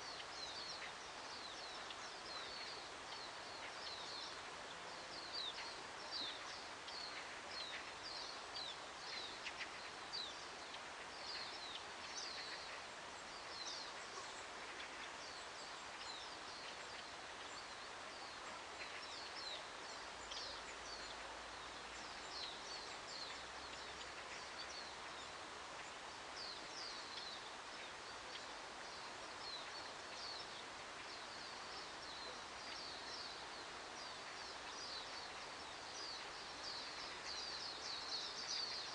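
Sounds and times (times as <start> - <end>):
soft outdoor hiss: 0.0 - 38.9
songbirds chirping: 0.0 - 38.9.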